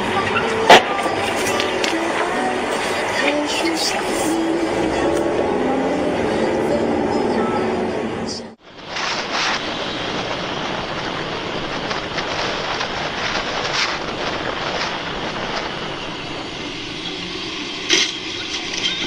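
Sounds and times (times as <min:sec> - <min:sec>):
moving vehicle noise: 0:00.0 - 0:19.0.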